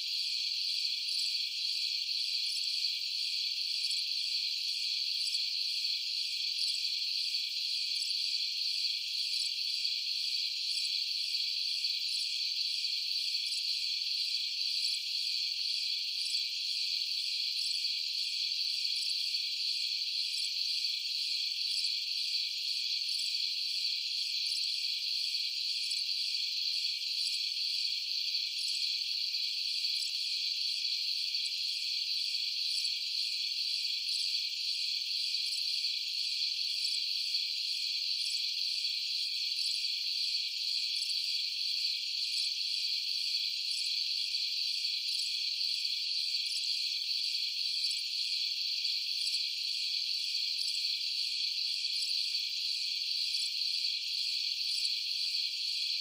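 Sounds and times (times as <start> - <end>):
crickets trilling: 0.1 - 56.0.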